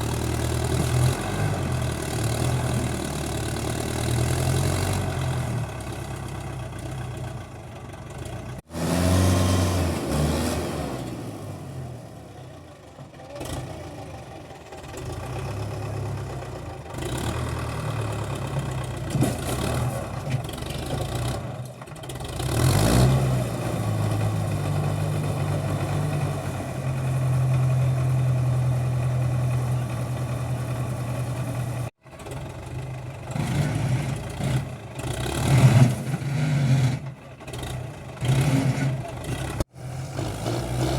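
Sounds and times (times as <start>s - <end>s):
tractor diesel engine revving: 0.0s - 12.6s, 13.2s - 40.9s.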